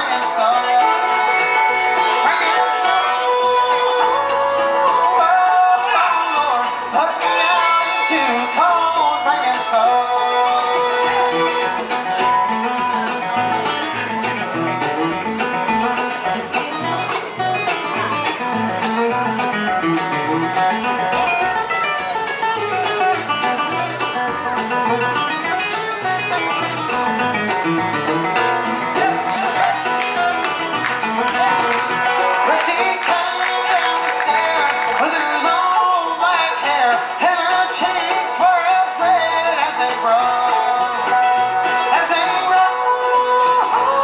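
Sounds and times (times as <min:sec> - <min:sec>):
acoustic guitar: 0:00.0 - 0:44.0
banjo: 0:00.0 - 0:44.0
fiddle: 0:00.0 - 0:44.0.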